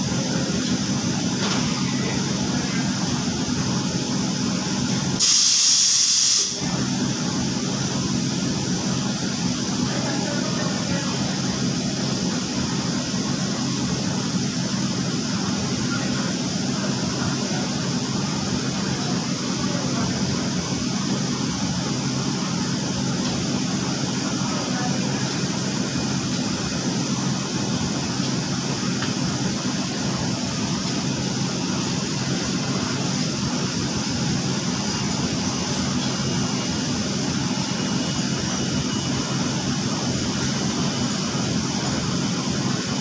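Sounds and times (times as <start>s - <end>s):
laundry machinery humming: 0.0s - 5.3s, 6.4s - 43.0s.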